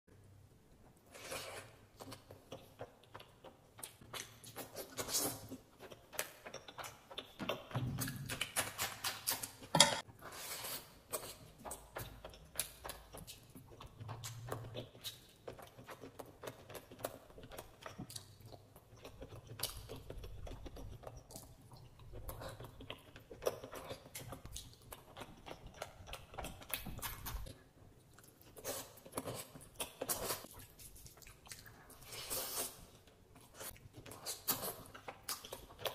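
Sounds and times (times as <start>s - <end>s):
man chewing and lip-smacking: 1.1s - 9.8s, 10.6s - 35.9s.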